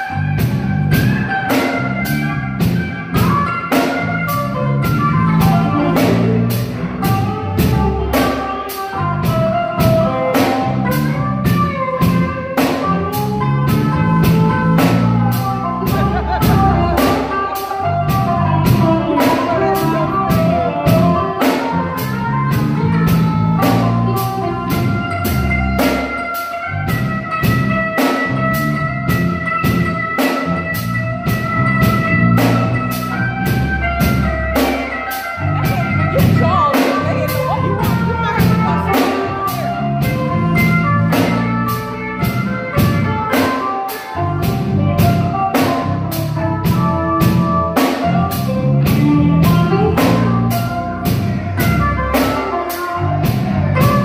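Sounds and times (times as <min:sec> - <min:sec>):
drum kit beat: 0:00.0 - 0:54.0
electric guitars: 0:00.0 - 0:54.0.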